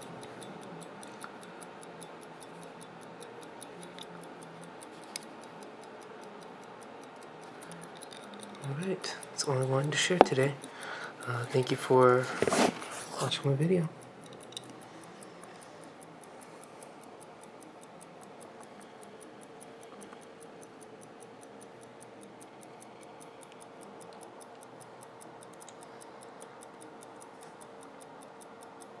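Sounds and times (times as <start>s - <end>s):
faint steady hum: 0.0s - 29.0s
pocket watch ticking: 0.0s - 29.0s.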